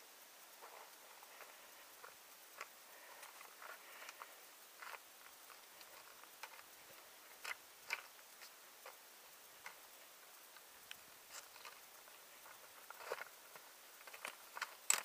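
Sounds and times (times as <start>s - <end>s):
poles and boots clicking on stones: 0.6s - 15.0s.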